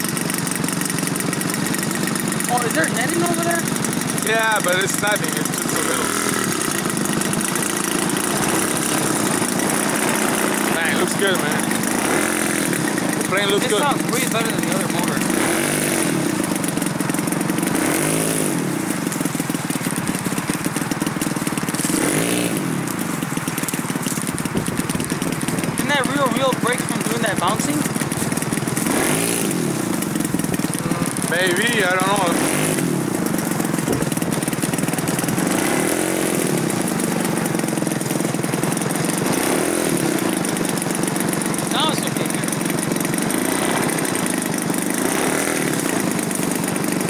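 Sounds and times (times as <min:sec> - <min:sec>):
model plane engine running: 0:00.0 - 0:47.0.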